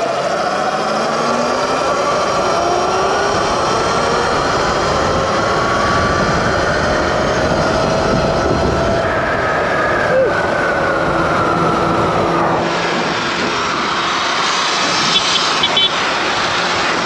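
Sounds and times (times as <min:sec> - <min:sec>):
electric motor whining: 0:00.0 - 0:17.0
wind noise: 0:00.0 - 0:17.0.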